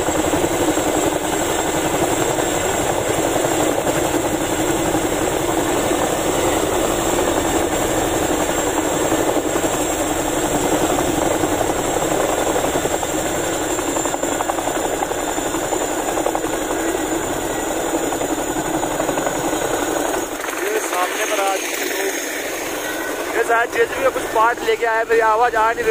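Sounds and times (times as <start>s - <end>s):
helicopter rotors: 0.0s - 25.9s
high turbine whine: 0.0s - 25.9s.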